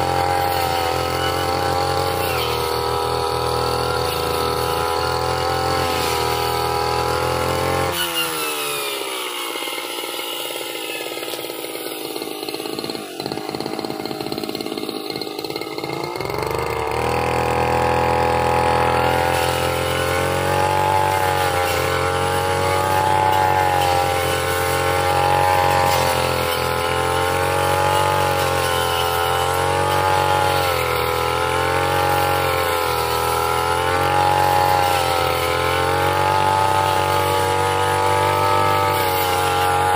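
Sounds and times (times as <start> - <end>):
blade cutting through grass: 0.0 - 39.9
brush cutter engine revving: 0.0 - 39.9.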